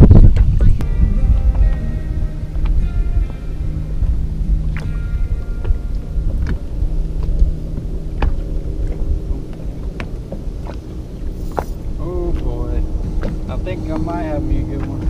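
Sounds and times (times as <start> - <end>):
steady low hum: 0.0 - 15.0
wind on microphone: 0.0 - 15.0.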